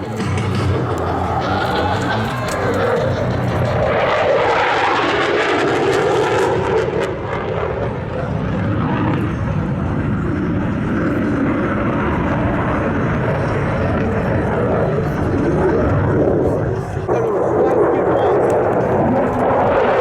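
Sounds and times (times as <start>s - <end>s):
jet engine flying overhead: 0.0s - 20.0s.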